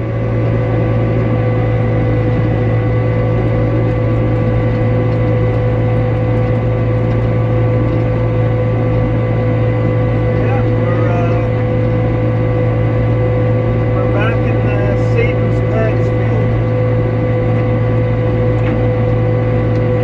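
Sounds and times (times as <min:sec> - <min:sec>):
hay swather machinery drone: 0:00.0 - 0:20.0.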